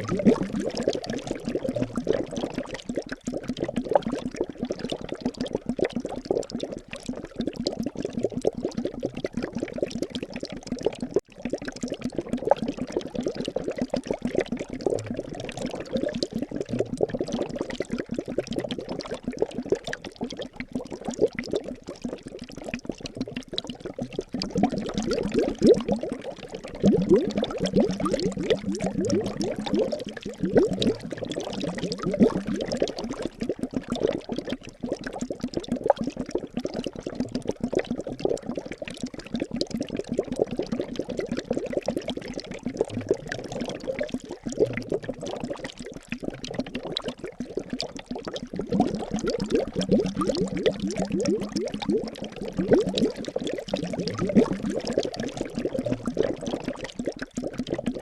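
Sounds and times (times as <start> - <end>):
liquid bubbling: 0.0 - 58.0.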